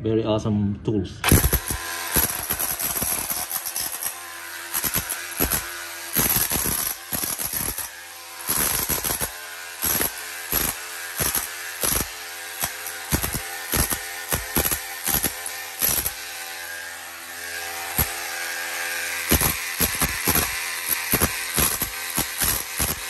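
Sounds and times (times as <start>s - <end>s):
rotary hammer chiselling tile: 1.3s - 23.0s.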